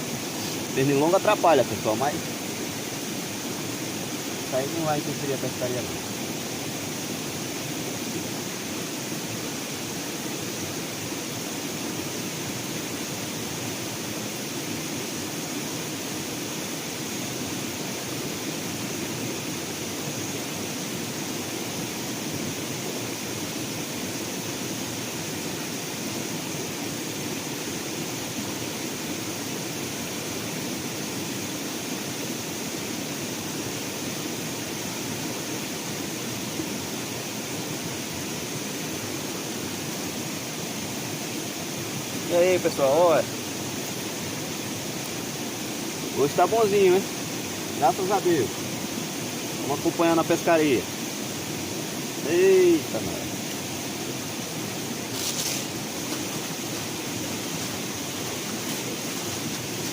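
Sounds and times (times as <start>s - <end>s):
outdoor ambient hiss: 0.0s - 59.9s.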